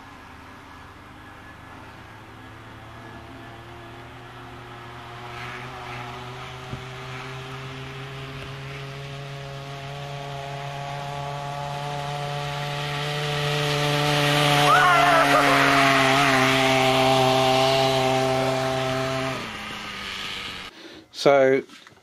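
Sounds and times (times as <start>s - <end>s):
small two-stroke engine running: 0.0s - 20.7s.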